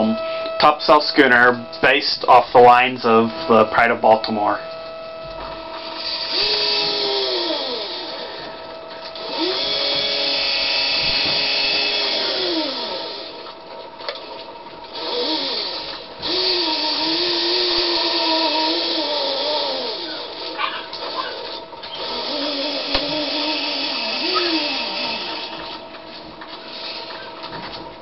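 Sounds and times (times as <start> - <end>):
servo winch whining: 0.0 - 28.0.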